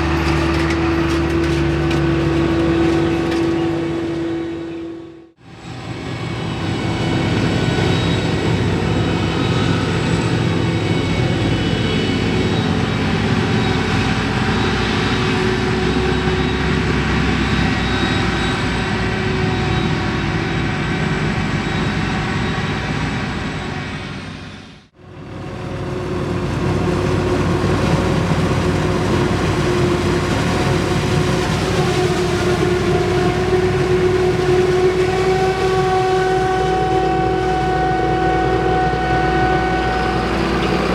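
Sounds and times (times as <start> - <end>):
diesel farm machinery running: 0.0 - 40.9
high mechanical whine: 0.0 - 40.9.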